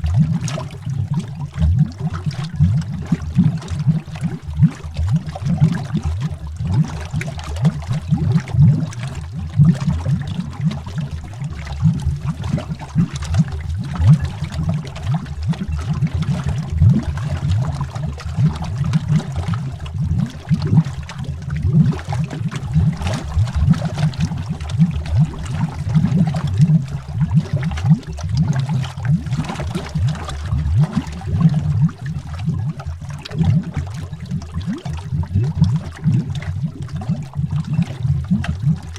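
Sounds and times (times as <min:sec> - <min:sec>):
underwater bubbling: 0:00.0 - 0:38.9.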